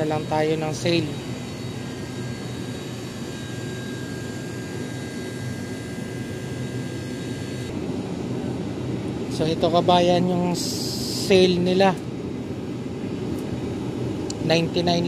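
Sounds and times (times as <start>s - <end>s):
refrigerated cases humming: 0.0s - 14.8s.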